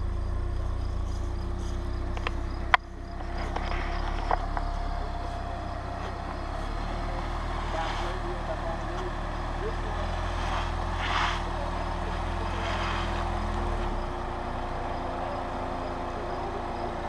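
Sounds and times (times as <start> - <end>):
suv engine low hum: 0.0 - 17.0.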